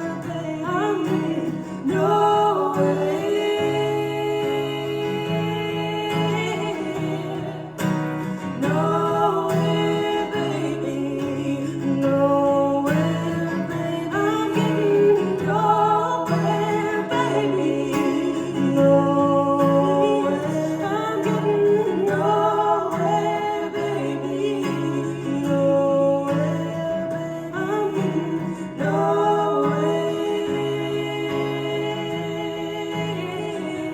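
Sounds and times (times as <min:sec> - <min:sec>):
person singing: 0:00.0 - 0:33.9
plucked acoustic guitar: 0:00.0 - 0:33.9.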